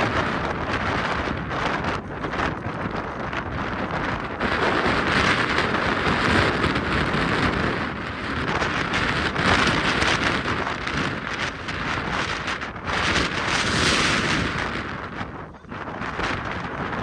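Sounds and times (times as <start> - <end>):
gusty wind buffeting microphone: 0.0 - 17.0.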